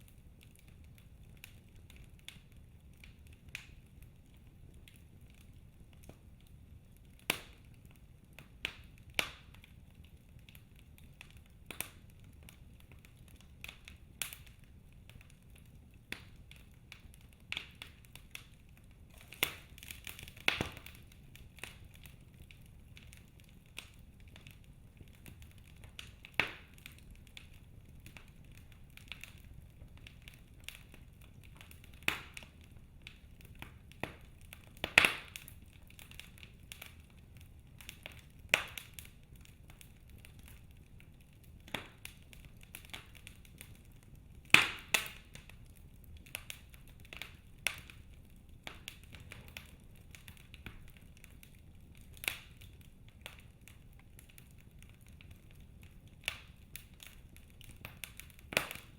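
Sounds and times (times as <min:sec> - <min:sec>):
faint low hiss: 0:00.0 - 0:58.9
wood fire crackling and popping: 0:00.0 - 0:58.9.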